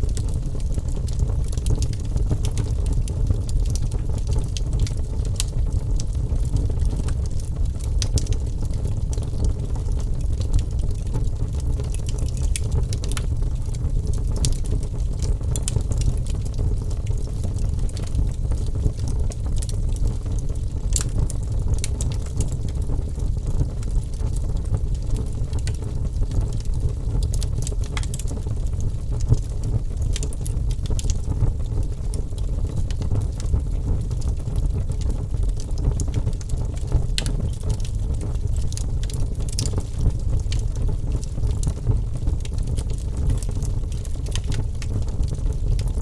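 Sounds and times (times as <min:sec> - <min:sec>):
fire crackling and popping: 0:00.0 - 0:46.0
low rumble of flames: 0:00.0 - 0:46.0.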